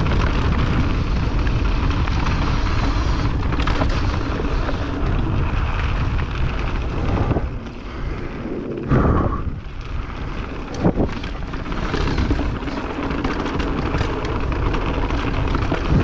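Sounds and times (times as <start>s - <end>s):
bike clattering over bumps: 0.0s - 8.8s, 9.8s - 16.0s
bike tyre noise: 0.0s - 16.0s
wind rushing over microphone: 0.0s - 16.0s.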